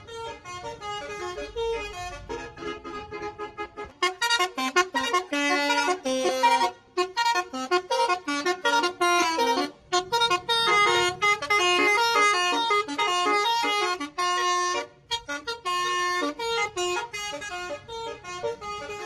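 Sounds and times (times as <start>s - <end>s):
bus air horn playing a tune: 0.0s - 19.0s.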